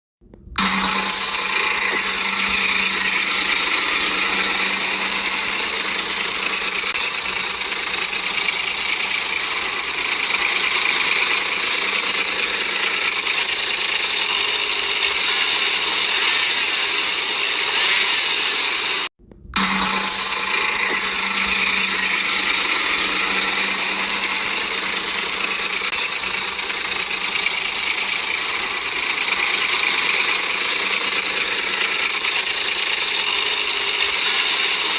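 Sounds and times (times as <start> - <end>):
engine running with chain rattle: 0.2 - 34.9.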